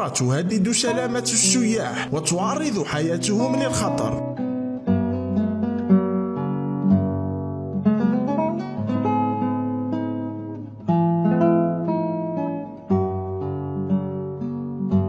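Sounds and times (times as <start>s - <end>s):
plucked acoustic guitar chords: 0.0s - 15.0s.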